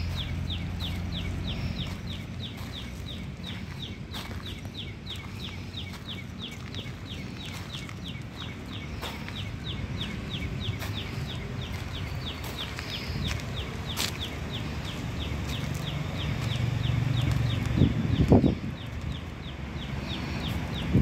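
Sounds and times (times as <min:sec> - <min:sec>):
bird chirping: 0:00.0 - 0:21.0
steady low rumble: 0:00.0 - 0:21.0.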